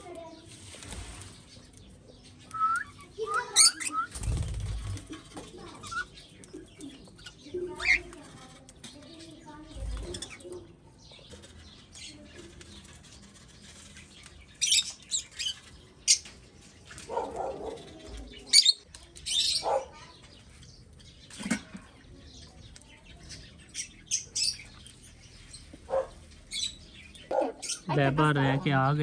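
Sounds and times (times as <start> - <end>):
lovebirds chirping: 0.0 - 29.0.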